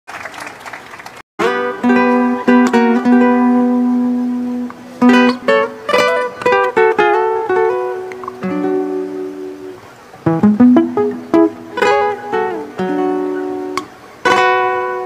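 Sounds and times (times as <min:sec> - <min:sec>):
acoustic guitar plucked slowly: 0:01.4 - 0:15.0.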